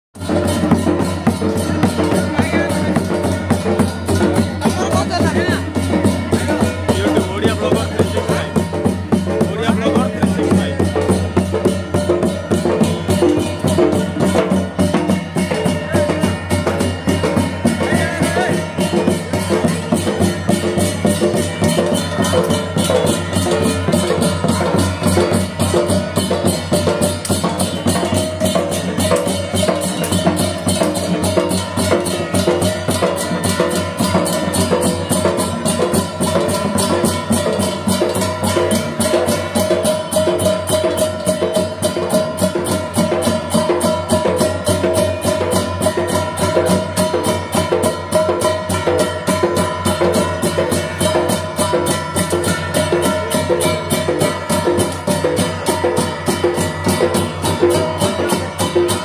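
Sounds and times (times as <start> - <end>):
barrel drums beaten with sticks: 0.2 - 59.0
small hand cymbals: 0.2 - 59.0.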